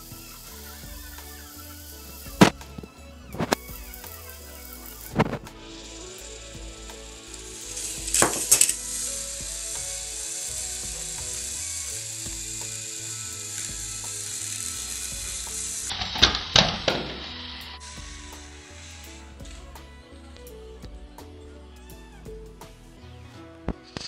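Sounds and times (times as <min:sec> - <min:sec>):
toy train motors whirring: 0:00.0 - 0:20.6
background music: 0:00.0 - 0:24.0.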